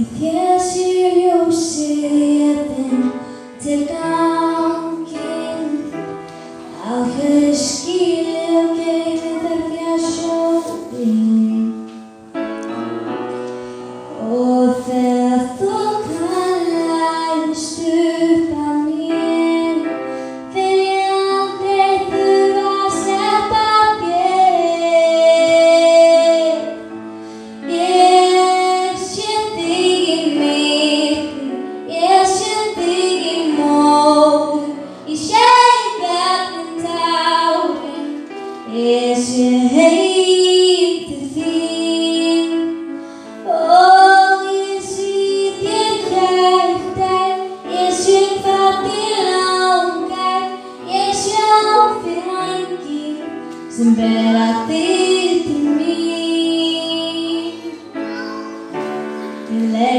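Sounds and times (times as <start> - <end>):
girl singing into a microphone: 0.0 - 12.2, 14.0 - 59.9
grand piano accompaniment: 0.0 - 59.9.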